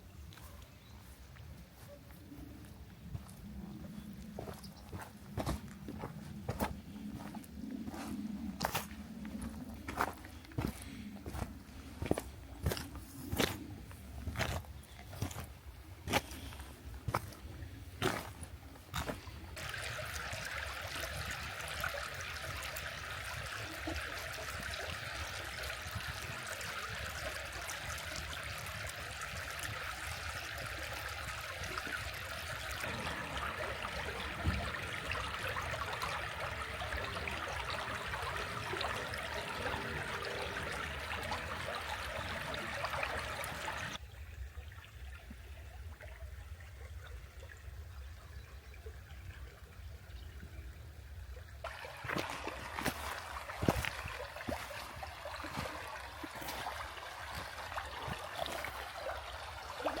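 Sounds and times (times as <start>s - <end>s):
stream water trickling: 2.7s - 60.0s.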